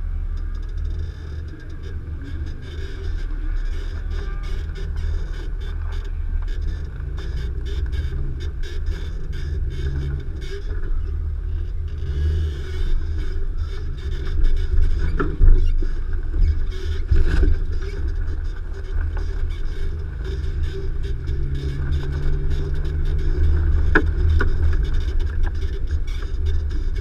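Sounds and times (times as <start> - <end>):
engine running at low speed: 0.0 - 27.0
rattles and clicks: 0.0 - 27.0.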